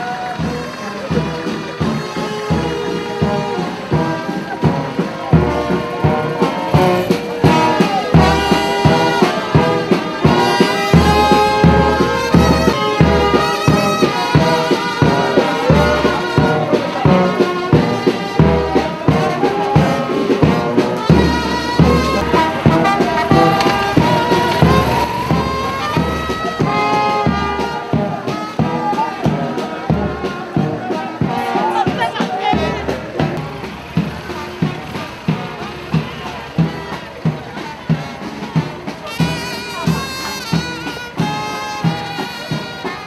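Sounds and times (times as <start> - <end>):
brass music with steady beat: 0.0 - 43.0.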